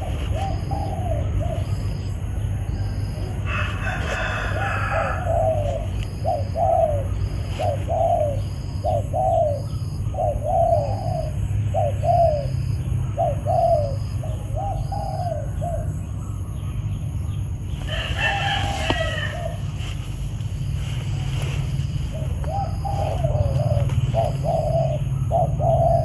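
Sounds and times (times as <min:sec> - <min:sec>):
dove cooing: 0:00.0 - 0:12.6, 0:13.2 - 0:16.0, 0:17.7 - 0:26.0.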